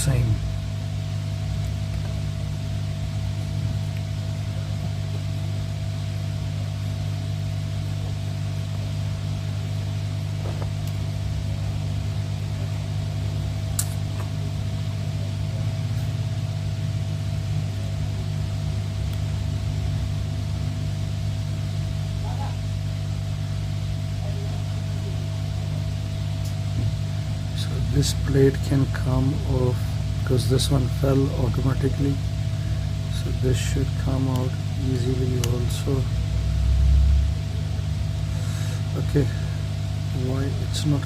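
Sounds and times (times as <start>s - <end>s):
machine hum with high tone: 0.0s - 41.0s.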